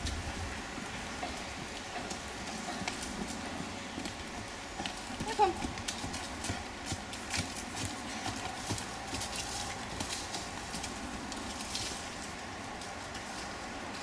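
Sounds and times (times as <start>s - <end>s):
horse hoofbeats on dirt: 0.0s - 14.0s.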